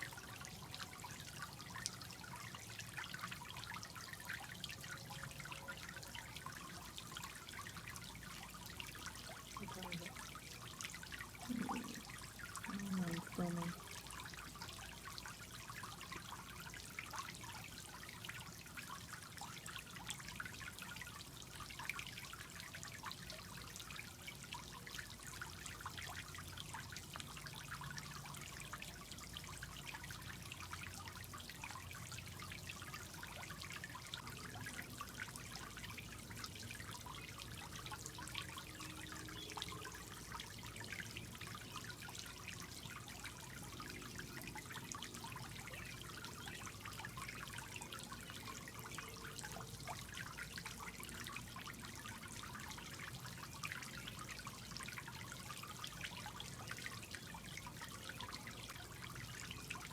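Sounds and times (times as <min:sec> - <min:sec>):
fountain trickling into pool: 0:00.0 - 0:59.9.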